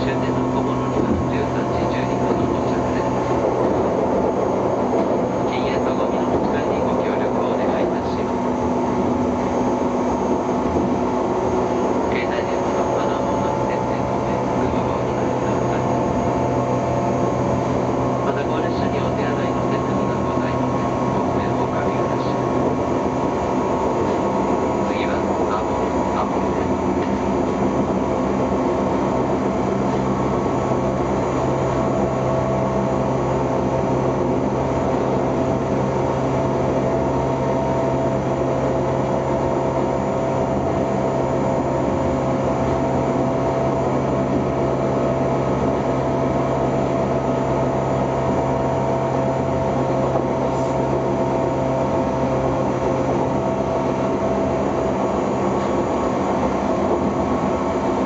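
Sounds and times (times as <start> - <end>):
steady hum drone: 0.0 - 58.0
wheels rumbling on rail: 0.0 - 58.0.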